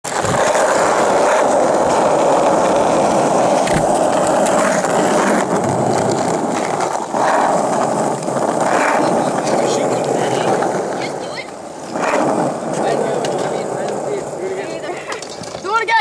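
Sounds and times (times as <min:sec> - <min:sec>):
scooter wheels rolling on asphalt: 0:00.0 - 0:16.0.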